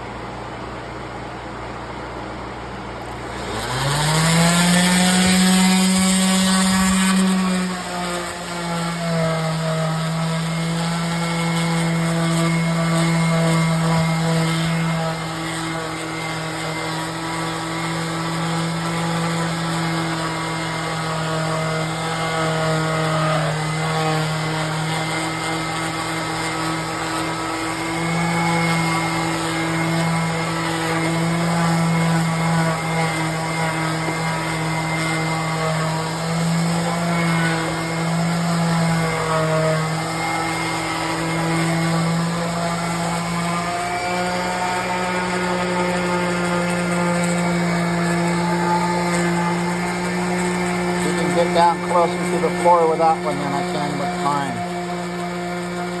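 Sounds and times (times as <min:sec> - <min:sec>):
electric sanders humming: 0:00.0 - 0:56.0.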